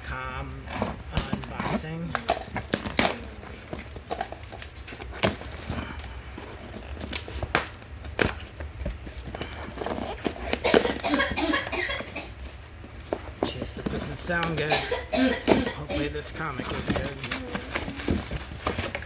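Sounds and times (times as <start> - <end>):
cardboard and plastic crackling: 0.0 - 14.7, 15.3 - 19.0.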